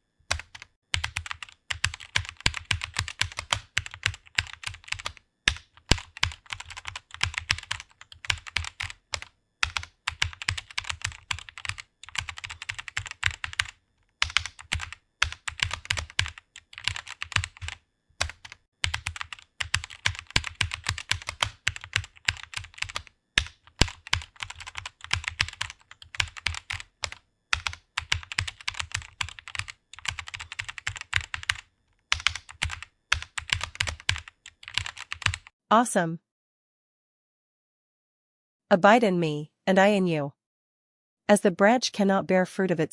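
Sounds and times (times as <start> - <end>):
fast typing on keyboard: 0.3 - 35.5.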